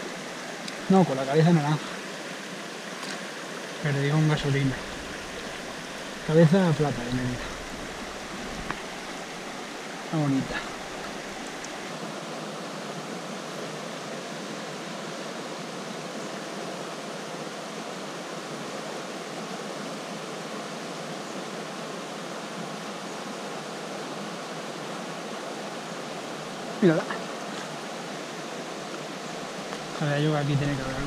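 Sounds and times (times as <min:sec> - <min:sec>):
river water flowing: 0:00.0 - 0:31.0.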